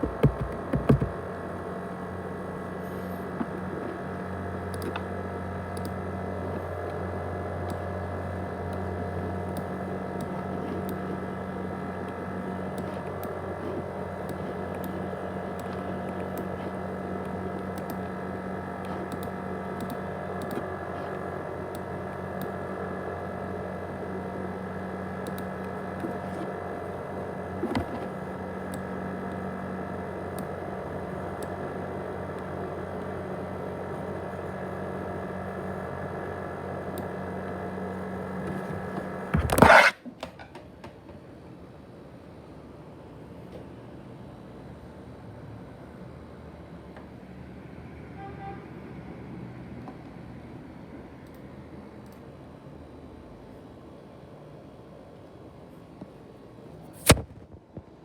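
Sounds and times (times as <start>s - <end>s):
laptop fan whirring hum: 0.0s - 58.0s.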